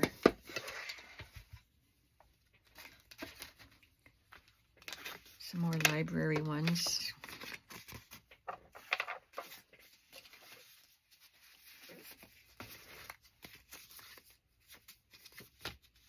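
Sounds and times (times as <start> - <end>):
paper cards rustling: 2.5 - 16.0.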